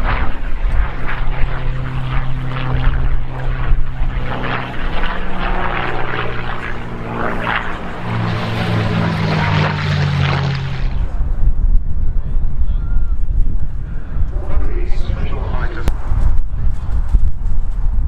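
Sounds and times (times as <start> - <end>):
propeller plane engines droning: 0.0 - 18.0
wind buffeting microphone: 0.0 - 18.0.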